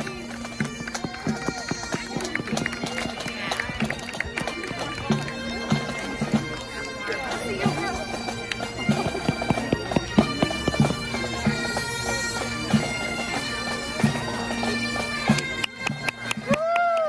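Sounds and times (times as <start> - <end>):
drum beats: 0.0 - 14.4
bagpipes playing a tune: 0.0 - 16.7.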